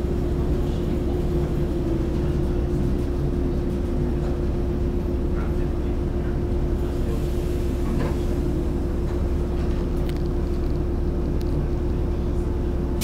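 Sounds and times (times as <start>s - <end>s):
constant hum: 0.0s - 13.0s
train carriage rumble: 0.0s - 13.0s.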